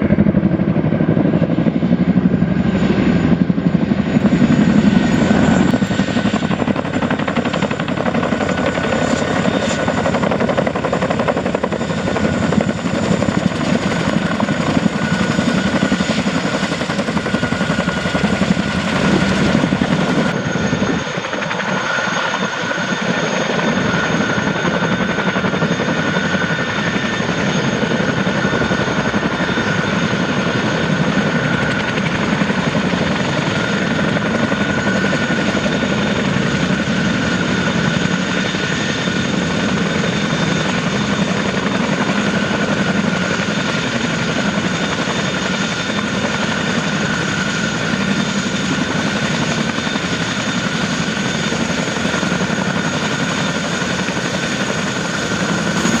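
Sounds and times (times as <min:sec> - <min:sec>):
helicopter engines and rotors: 0:00.0 - 0:56.0
high turbine whine: 0:00.0 - 0:56.0.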